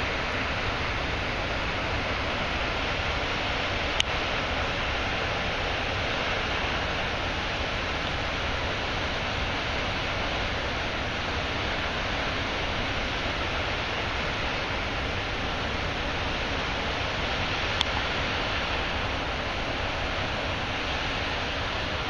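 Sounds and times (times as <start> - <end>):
water rushing over dam: 0.0 - 22.0.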